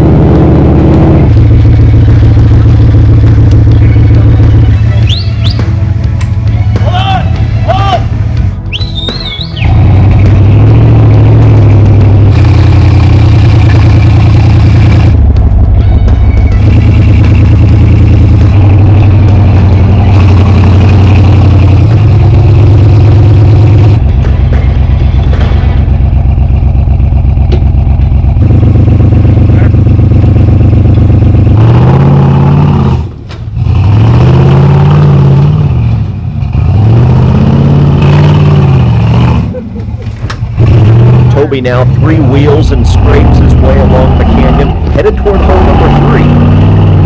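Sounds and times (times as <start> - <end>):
truck engine revving: 0.0 - 47.0.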